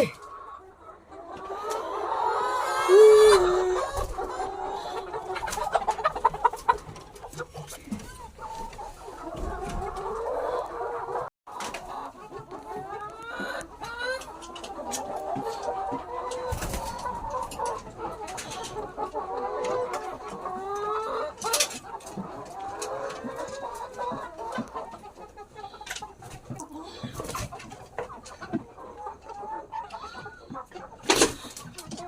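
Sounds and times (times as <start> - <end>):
hens clucking and calling: 0.0 - 32.0.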